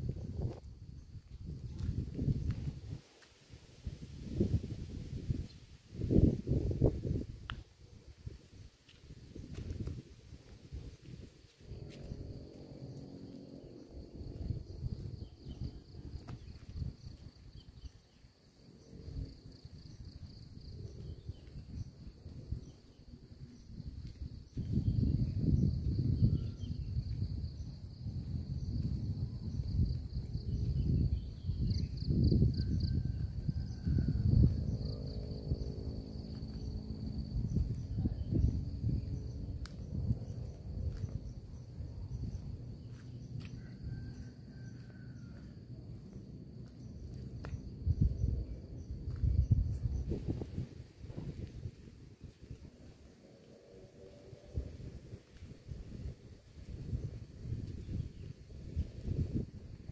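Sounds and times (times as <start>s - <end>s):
gusty wind rumbling: 0.0s - 18.0s, 18.8s - 59.9s
insects chirring: 8.2s - 59.9s.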